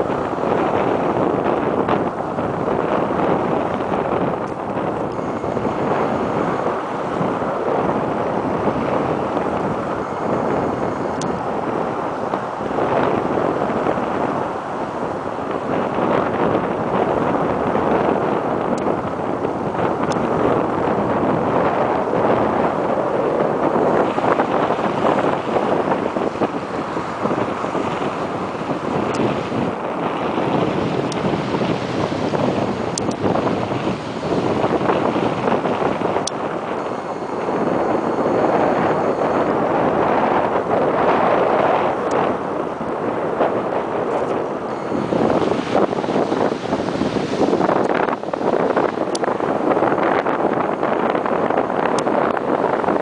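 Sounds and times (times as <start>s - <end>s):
choppy water washing: 0.0s - 53.0s
strong wind buffeting microphone: 0.0s - 53.0s.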